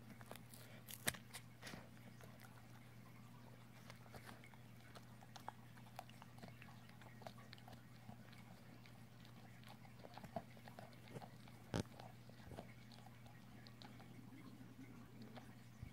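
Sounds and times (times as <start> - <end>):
dog chewing bone: 0.0 - 15.9.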